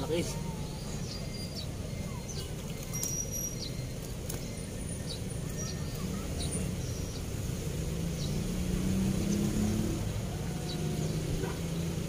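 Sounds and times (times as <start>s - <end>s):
passing road traffic hum: 0.0s - 12.0s.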